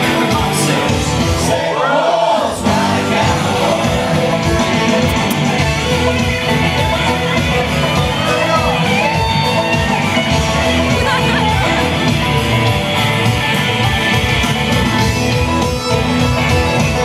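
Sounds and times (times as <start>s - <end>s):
country-rock music with guitar: 0.0s - 1.7s, 2.6s - 17.0s.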